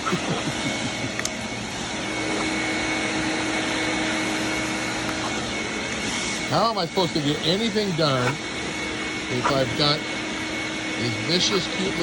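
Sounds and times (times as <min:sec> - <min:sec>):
leaf blower running: 0:00.0 - 0:12.0.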